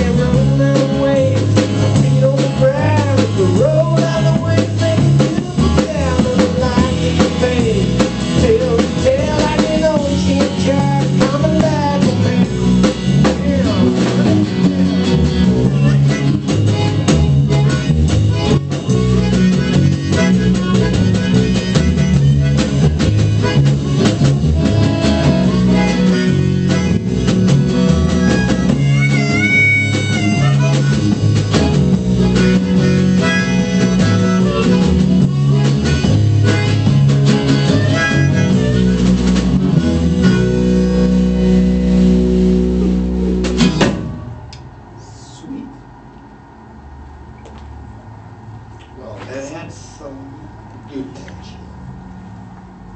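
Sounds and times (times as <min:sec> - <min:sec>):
band playing instrumental: 0:00.0 - 0:45.0
wavering lead line: 0:00.0 - 0:48.7.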